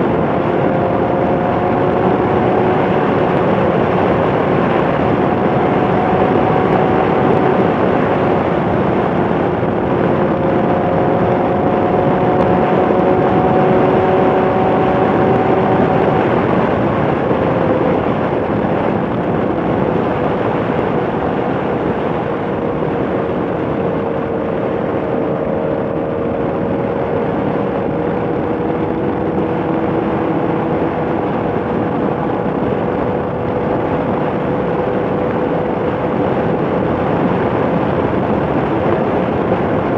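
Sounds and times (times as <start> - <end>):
motorcycle engine hum: 0.0 - 39.9
wind and road rush: 0.0 - 39.9.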